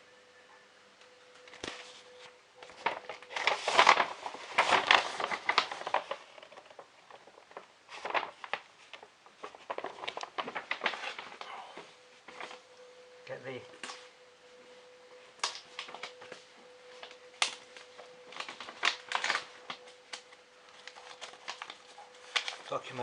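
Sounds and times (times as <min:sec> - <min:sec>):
plastic packaging crinkling: 0:01.3 - 0:14.2, 0:14.9 - 0:23.0.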